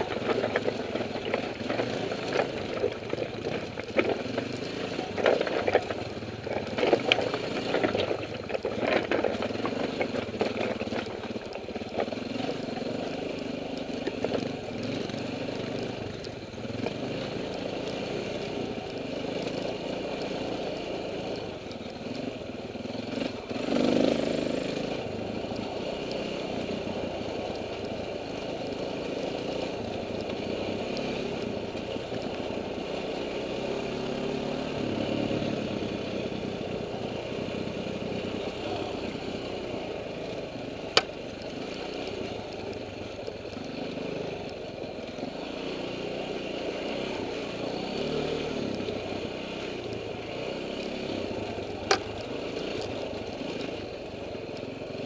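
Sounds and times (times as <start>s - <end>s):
dirt bike engine at low revs: 0.0s - 55.0s.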